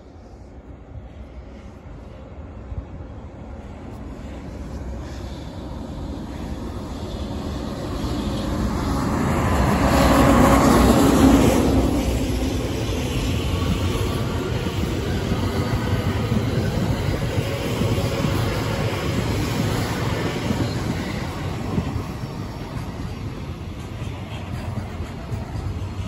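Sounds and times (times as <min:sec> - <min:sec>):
trains passing on rails: 0:00.0 - 0:26.0.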